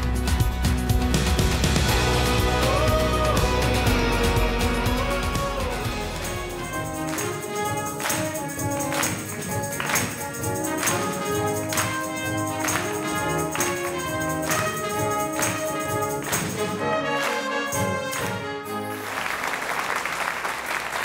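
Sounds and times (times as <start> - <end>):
percussion strokes: 0.0 - 18.9
wind band playing: 1.0 - 19.4.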